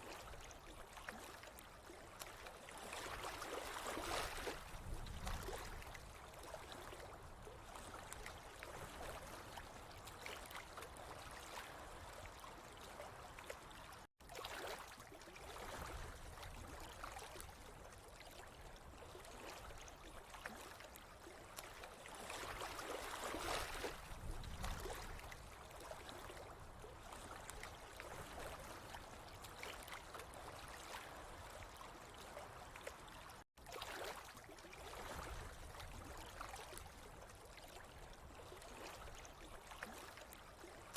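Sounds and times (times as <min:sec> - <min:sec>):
water flowing and trickling: 0:00.0 - 0:40.9.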